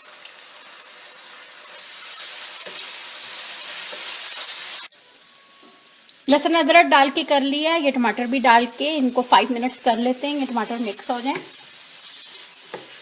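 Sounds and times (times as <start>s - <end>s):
onions frying in hot oil: 0.0s - 13.0s.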